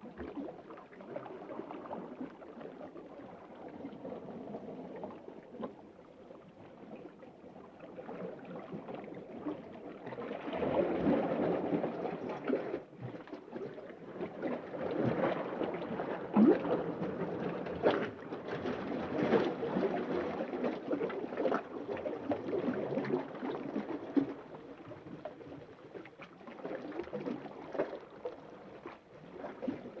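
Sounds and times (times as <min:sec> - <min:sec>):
muffled churning water underwater: 0:00.0 - 0:30.0.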